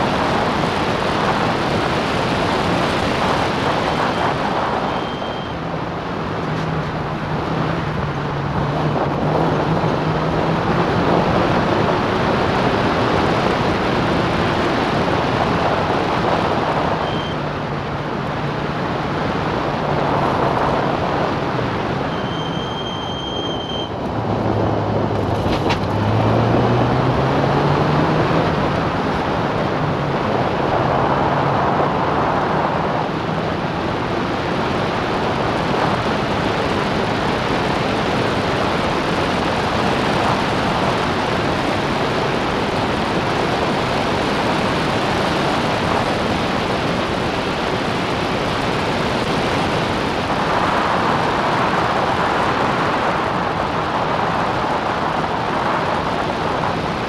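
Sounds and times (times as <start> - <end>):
racing car engine: 0.0 - 57.0
wind rush: 0.0 - 57.0.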